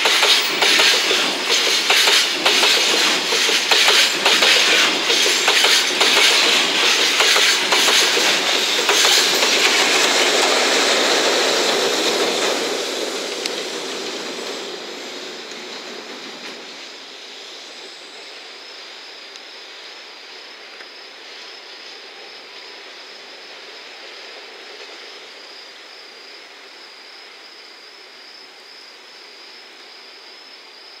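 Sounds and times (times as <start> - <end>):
high-pitched insect trill: 0.0 - 10.3, 14.3 - 31.0
freight train rumble: 0.0 - 30.8.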